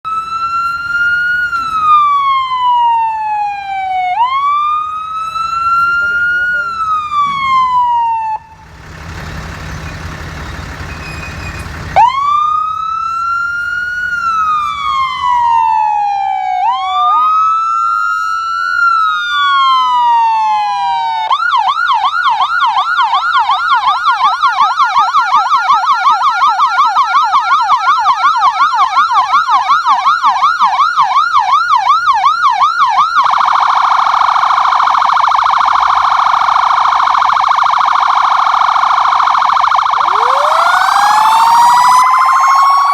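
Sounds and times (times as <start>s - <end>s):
ambulance siren: 0.0s - 8.8s, 11.9s - 42.9s.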